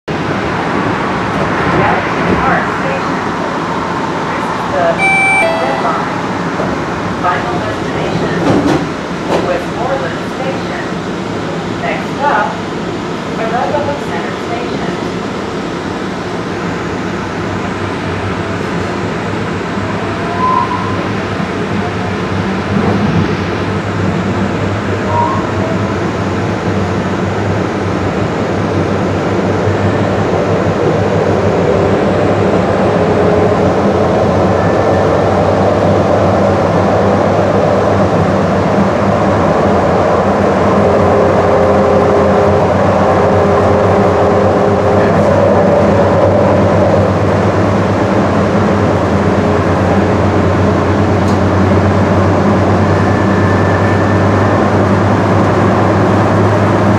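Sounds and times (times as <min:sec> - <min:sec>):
train wheels rumbling on track: 0:06.2 - 0:56.9.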